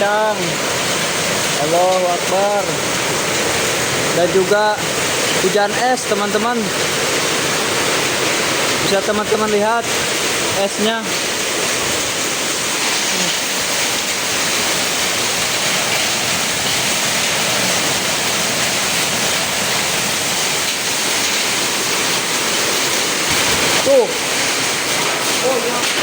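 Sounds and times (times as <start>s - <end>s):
heavy rain and hail pouring: 0.0s - 26.0s.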